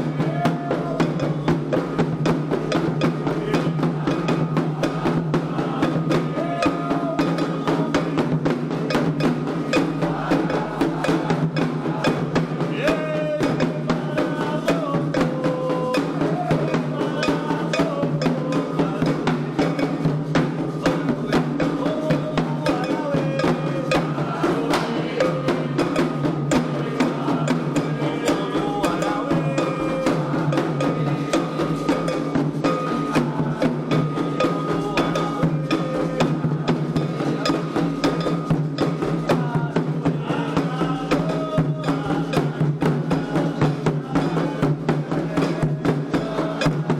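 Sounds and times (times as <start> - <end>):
hand drums: 0.0 - 46.9
struck percussion: 0.0 - 46.9
voices singing a chant: 0.0 - 46.9.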